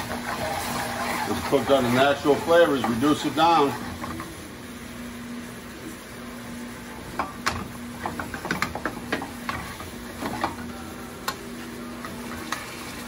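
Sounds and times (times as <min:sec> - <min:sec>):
gas burner low hum: 0:00.0 - 0:13.0.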